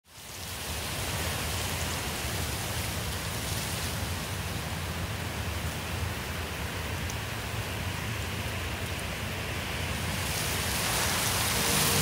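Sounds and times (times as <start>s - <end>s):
rushing noise with low rumble: 0.1s - 12.0s.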